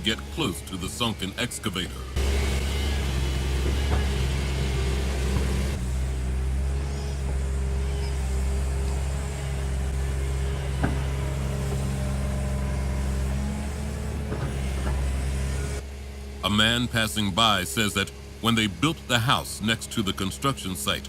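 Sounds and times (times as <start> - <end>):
heavy machinery engine running: 0.0 - 21.0.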